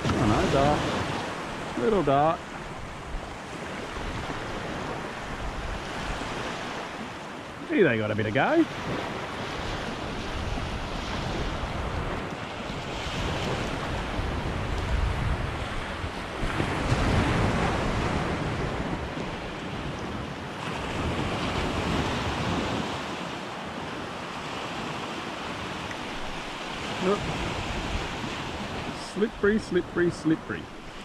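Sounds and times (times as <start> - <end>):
wind buffeting microphone: 0.0 - 29.6
surf washing up a sandy beach: 0.0 - 31.0.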